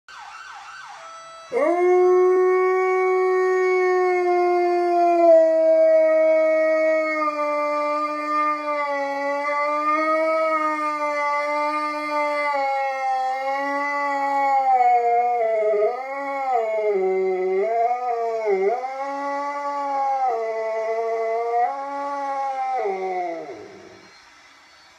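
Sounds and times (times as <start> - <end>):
siren: 0.1 - 24.9
dog howling: 1.5 - 24.0.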